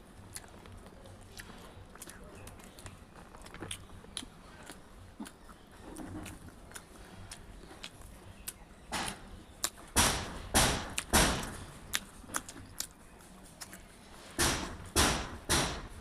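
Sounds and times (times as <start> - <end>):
faint chewing clicks: 0.0 - 10.0, 11.0 - 14.0
crunching bites of fried food: 0.2 - 13.9.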